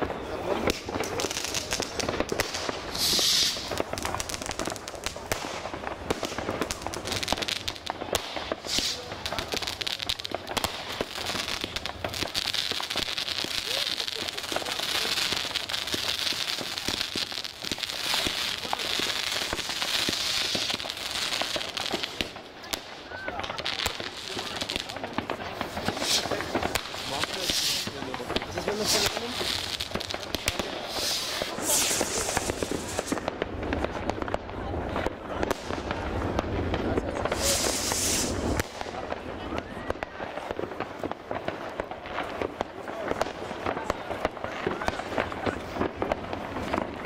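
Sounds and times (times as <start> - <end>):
fireworks and firecrackers crackling: 0.0 - 47.0.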